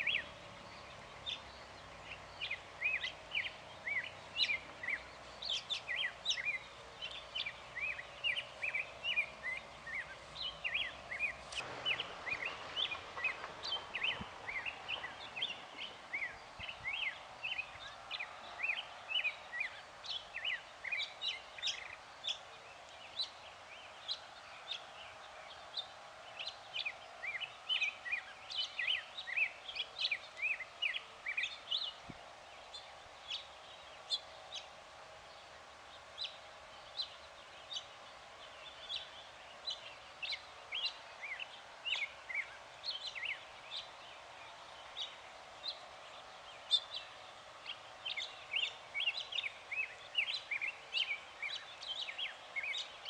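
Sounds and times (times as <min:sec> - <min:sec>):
birds chirping: 0:00.0 - 0:53.0
faint background noise: 0:00.0 - 0:53.0.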